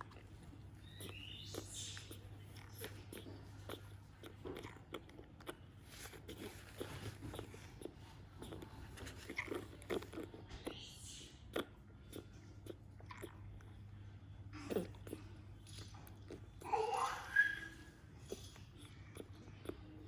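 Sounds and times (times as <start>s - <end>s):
monkey chewing and crunching food: 0.0s - 20.0s
steady low hum: 0.0s - 20.0s.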